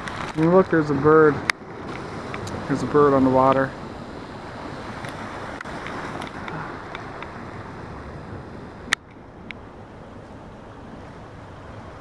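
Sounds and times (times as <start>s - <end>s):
distant ocean surf: 0.0s - 12.0s
wind rushing: 0.0s - 12.0s.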